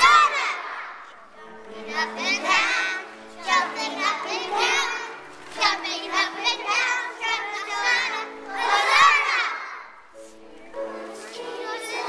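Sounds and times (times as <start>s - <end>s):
children singing and shouting: 0.0s - 12.0s
musical accompaniment: 0.0s - 12.0s.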